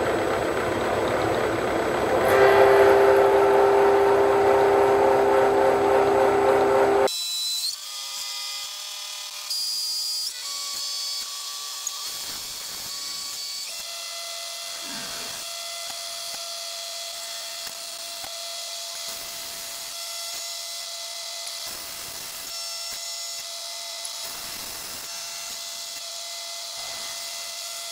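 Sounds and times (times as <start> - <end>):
milling machine cutting metal: 0.3 - 7.2, 9.1 - 27.9.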